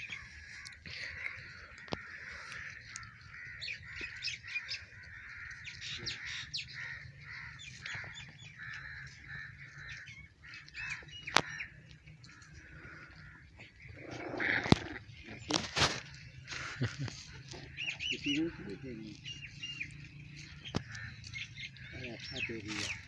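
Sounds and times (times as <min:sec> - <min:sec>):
birds chirping: 0:00.0 - 0:23.0
crows cawing: 0:00.0 - 0:23.0.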